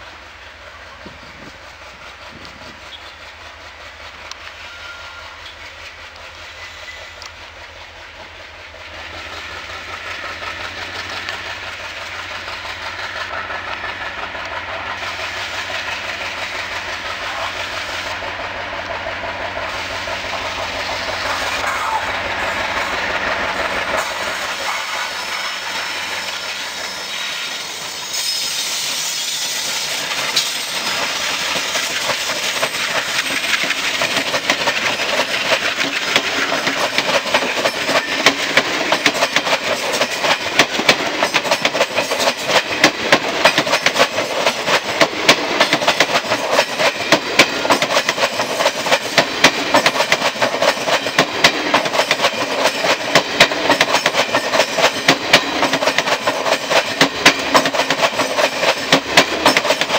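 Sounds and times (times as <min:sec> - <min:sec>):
diesel locomotive engines humming: 0:00.0 - 0:59.9
train wheels clacking over rail joints: 0:00.0 - 0:59.9.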